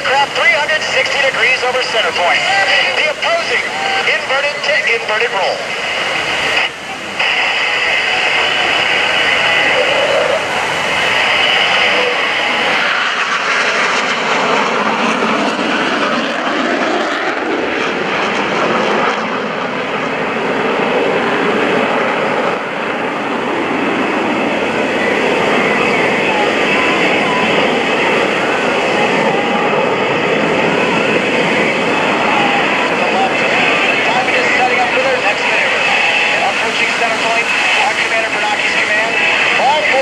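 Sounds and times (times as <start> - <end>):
jet fighter flying past: 0.0 - 40.0.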